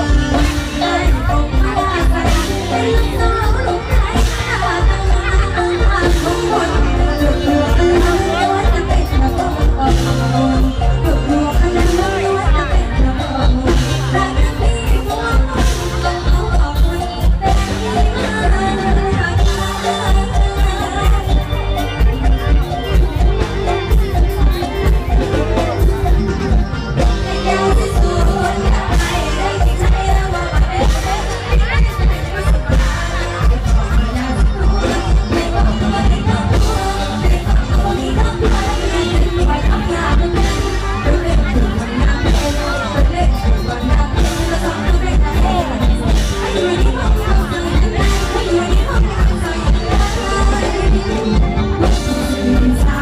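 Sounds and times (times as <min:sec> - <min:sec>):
amplified band: 0:00.0 - 0:53.0
steady bass drum beat: 0:00.0 - 0:53.0
woman singing: 0:00.0 - 0:53.0.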